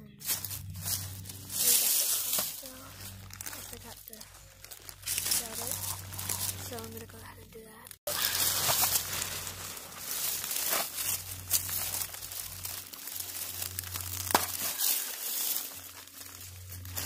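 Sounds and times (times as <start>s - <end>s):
rain poncho crinkling: 0.2s - 17.0s.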